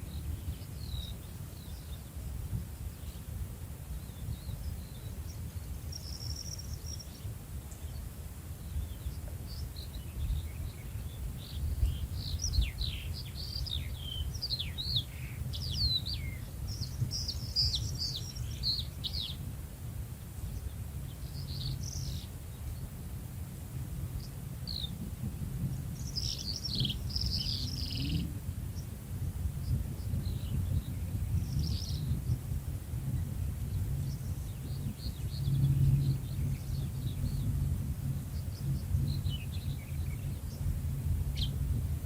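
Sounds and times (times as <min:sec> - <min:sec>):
low outdoor background rumble: 0:00.0 - 0:42.0
songbirds chirping: 0:00.0 - 0:42.0.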